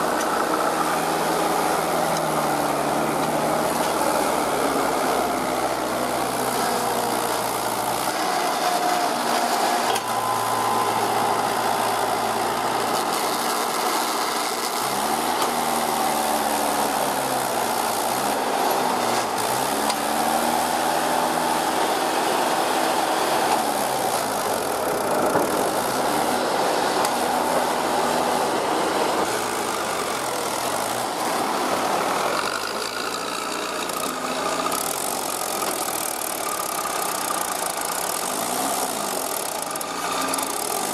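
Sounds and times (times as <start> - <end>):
tractor diesel engine labouring: 0.0 - 40.9.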